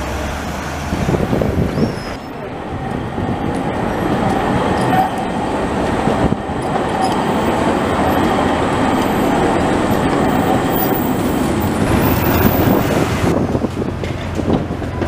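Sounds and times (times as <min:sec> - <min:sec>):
tram wheels on rails: 0:00.0 - 0:15.0.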